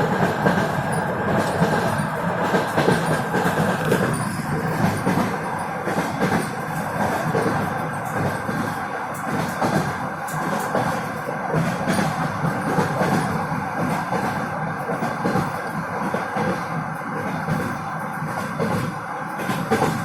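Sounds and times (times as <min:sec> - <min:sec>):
train wheels clattering over joints: 0:00.0 - 0:16.6.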